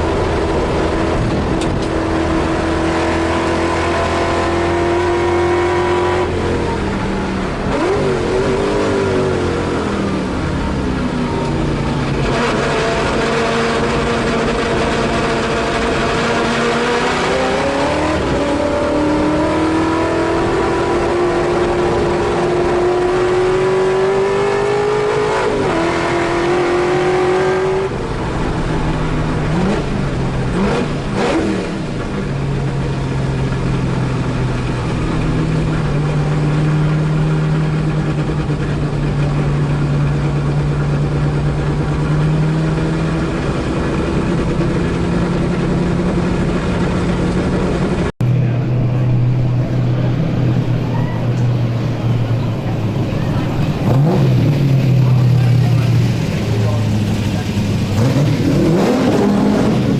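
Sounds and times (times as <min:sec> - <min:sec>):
engine throttle blips: 0:00.0 - 0:59.9
race car engine at speed: 0:00.0 - 0:59.9.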